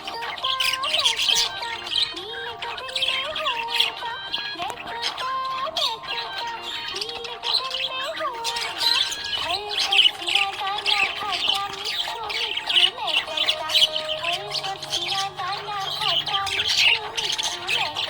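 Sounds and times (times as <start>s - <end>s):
budgerigar chattering: 0.0s - 18.0s.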